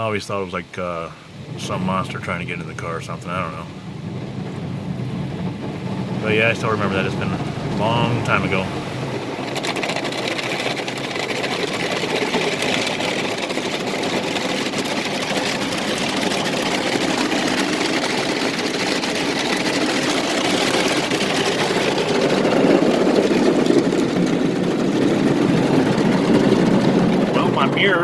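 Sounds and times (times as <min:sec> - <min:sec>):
car wash water spray and brushes: 0:00.0 - 0:28.0.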